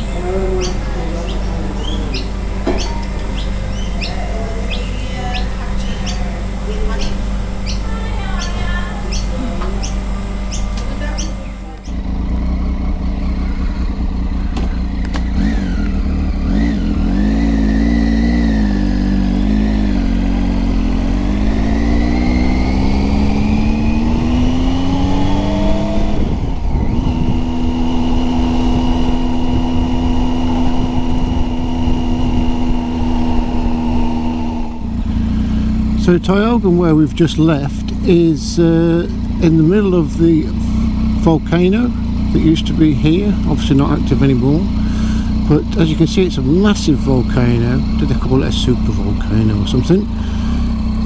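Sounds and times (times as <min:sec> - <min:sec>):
birds chirping: 0:00.0 - 0:51.0
motorcycle engine accelerating: 0:00.0 - 0:51.0
wind and road rumble: 0:00.0 - 0:51.0.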